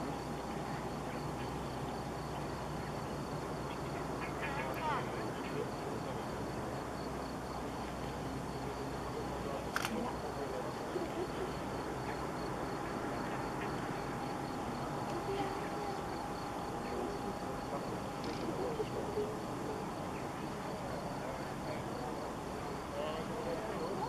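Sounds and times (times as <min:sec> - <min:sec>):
distant aircraft engines droning: 0:00.0 - 0:24.0.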